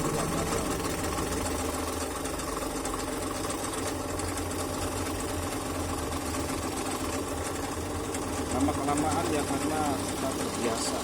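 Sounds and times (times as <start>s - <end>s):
electric scroll saw running: 0.0s - 11.0s.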